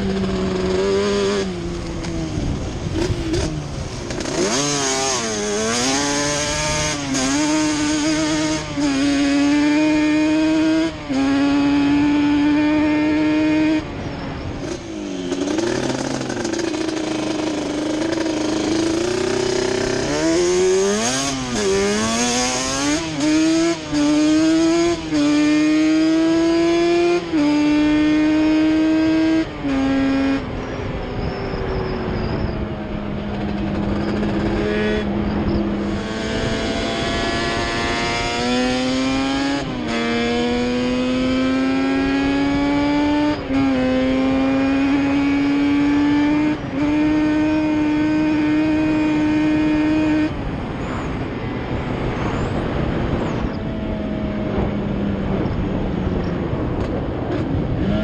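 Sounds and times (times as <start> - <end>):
two-stroke engine revving: 0.0 - 13.8, 14.6 - 30.6, 33.3 - 50.6.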